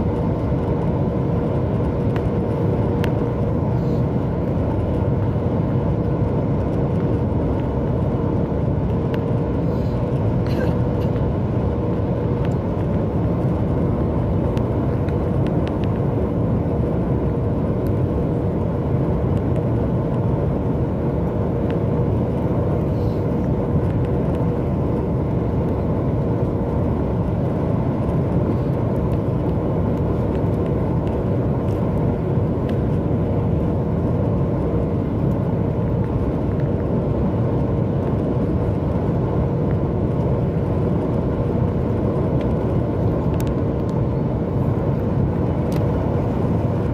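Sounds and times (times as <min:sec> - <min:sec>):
aircraft cabin engine rumble: 0:00.0 - 0:46.9
faint steady hum: 0:00.0 - 0:46.9.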